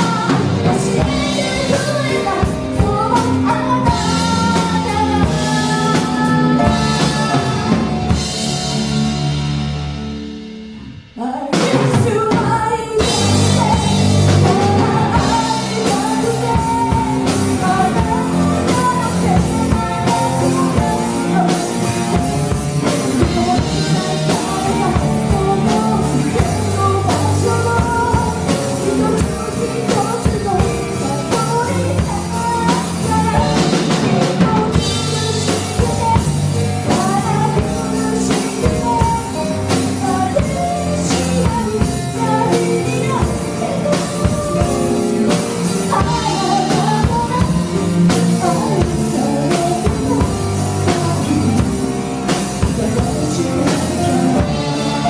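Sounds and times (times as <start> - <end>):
woman singing into microphone: 0.0 - 8.2, 11.2 - 55.0
drum kit: 0.0 - 55.0
electric guitar: 0.0 - 55.0
keyboard: 0.0 - 55.0.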